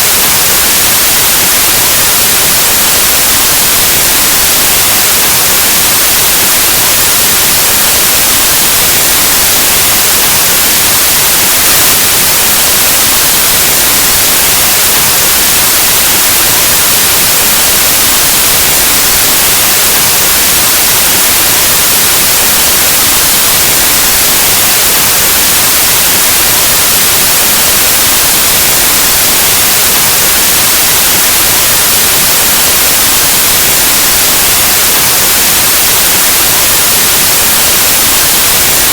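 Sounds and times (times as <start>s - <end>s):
white noise static hiss: 0.0s - 38.9s.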